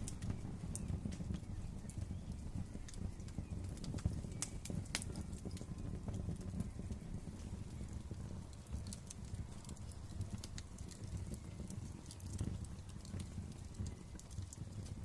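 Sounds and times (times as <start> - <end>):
fire popping and snapping: 0.0 - 15.0
low rumble of flames: 0.0 - 15.0.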